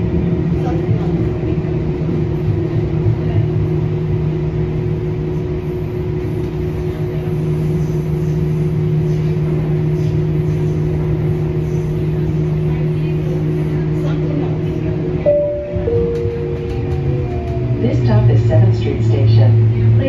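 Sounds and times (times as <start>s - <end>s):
train motor hum: 0.0s - 20.0s
wheels rumbling on rail: 0.0s - 20.0s.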